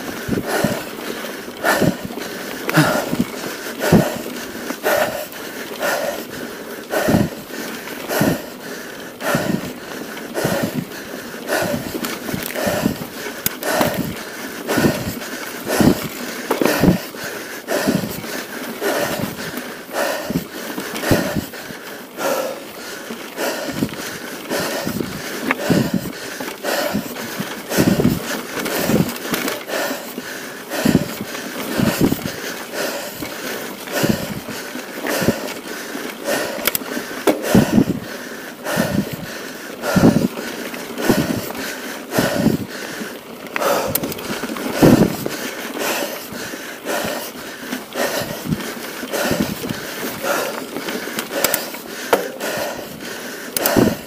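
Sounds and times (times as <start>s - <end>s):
person breathing hard: 0.0s - 54.0s.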